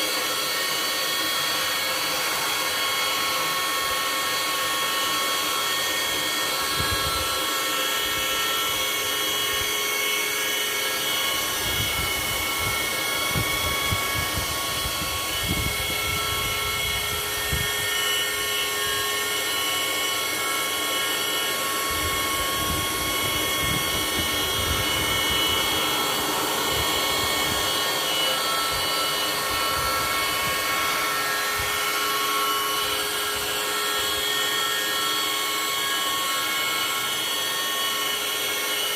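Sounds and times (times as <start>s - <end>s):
high whining tones: 0.0s - 38.0s
machine motor whirring: 0.3s - 38.9s.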